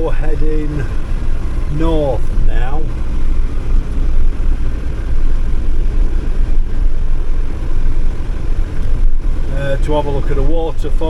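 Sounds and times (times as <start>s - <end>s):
campervan engine and tyres rumbling: 0.0s - 11.0s.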